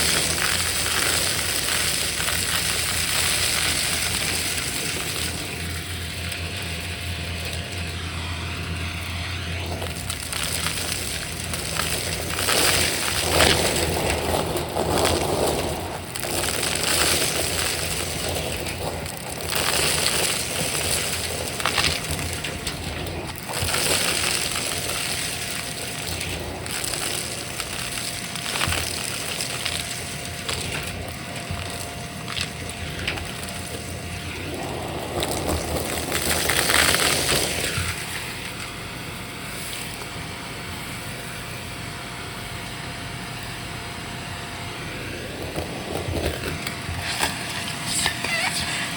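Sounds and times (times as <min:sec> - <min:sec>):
vacuum cleaner sucking up debris: 0:00.0 - 0:48.9
vacuum motor whine: 0:00.0 - 0:48.9.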